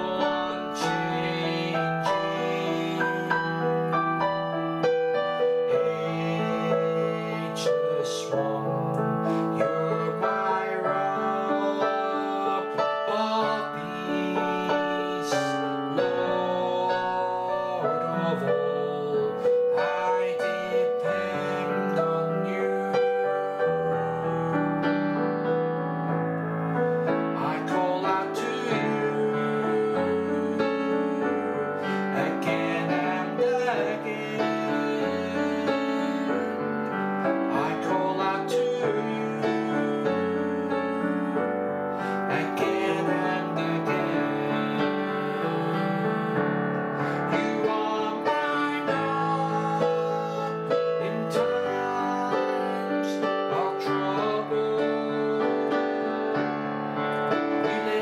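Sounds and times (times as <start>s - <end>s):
piano playing chords: 0.0s - 58.0s.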